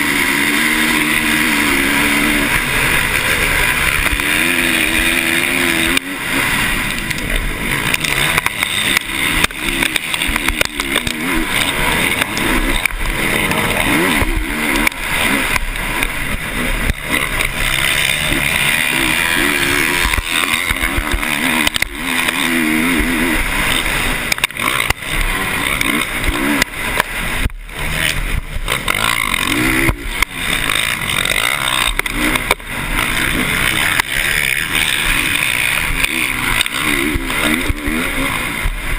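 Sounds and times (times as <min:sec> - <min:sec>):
dirt bike engine revving: 0:00.0 - 0:38.9
track noise: 0:00.0 - 0:38.9.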